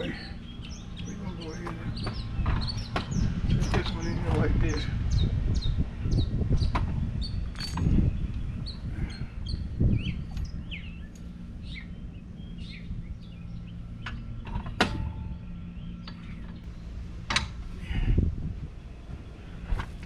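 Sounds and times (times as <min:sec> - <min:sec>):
small birds chirping: 0:00.0 - 0:16.7.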